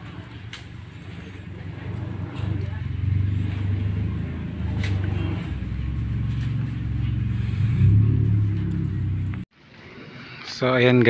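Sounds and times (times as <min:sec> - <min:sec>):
vehicle engine humming: 0:00.0 - 0:09.5.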